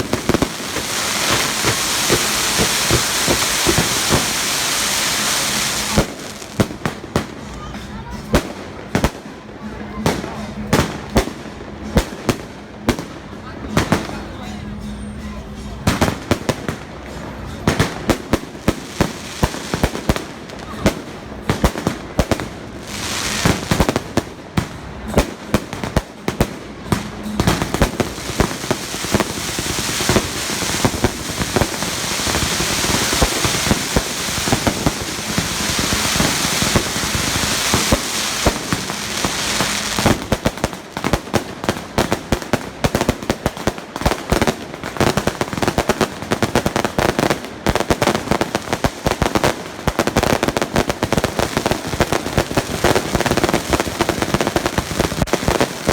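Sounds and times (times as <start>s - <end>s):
firecrackers banging and crackling: 0.0s - 55.9s.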